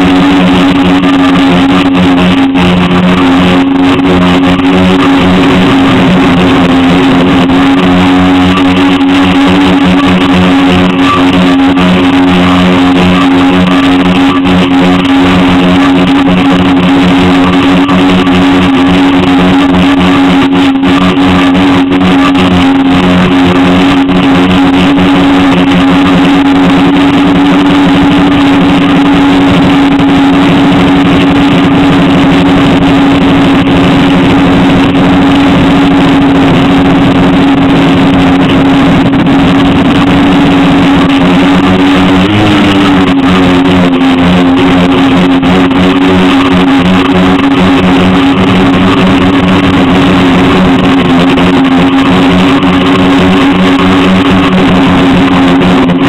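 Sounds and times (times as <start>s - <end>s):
drone motors buzzing: 0.0s - 56.0s.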